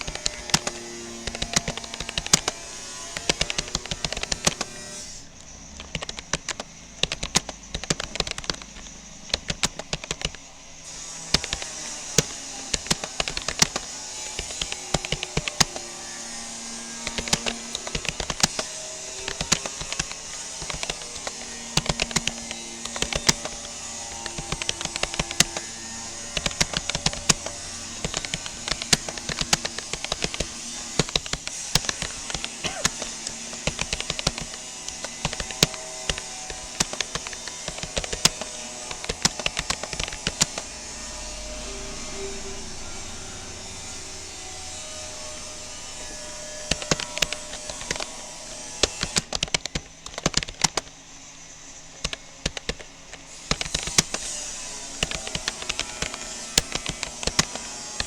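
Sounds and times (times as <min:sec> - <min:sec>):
computer keyboard keys clicking: 0:00.0 - 0:41.2, 0:45.1 - 0:51.0, 0:51.8 - 0:58.0.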